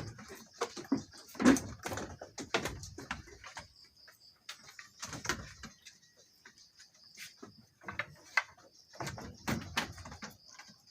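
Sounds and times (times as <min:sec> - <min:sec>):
goats knocking and clattering: 0:00.0 - 0:10.9.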